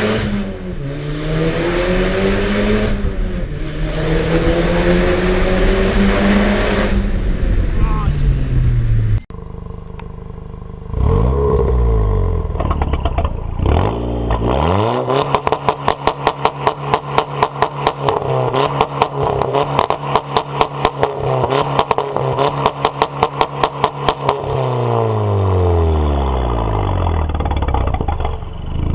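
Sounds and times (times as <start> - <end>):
car engine revving with rapid bangs: 0.0 - 28.9.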